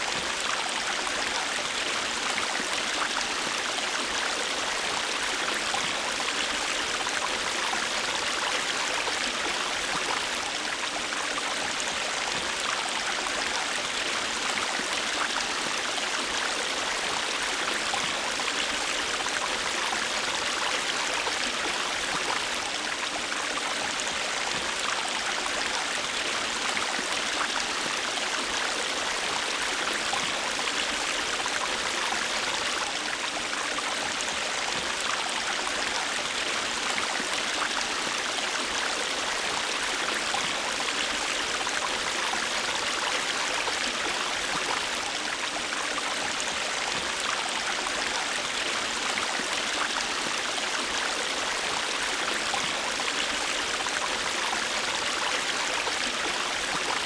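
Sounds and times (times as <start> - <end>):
stream water rushing and babbling: 0.0 - 57.0.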